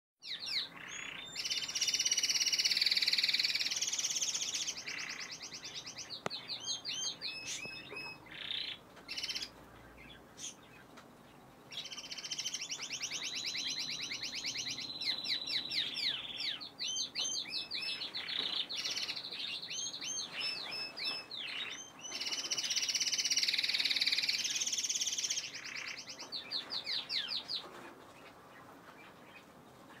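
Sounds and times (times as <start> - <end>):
canary trilling: 0.2 - 10.8, 11.7 - 27.8
canary chirps: 0.2 - 30.0.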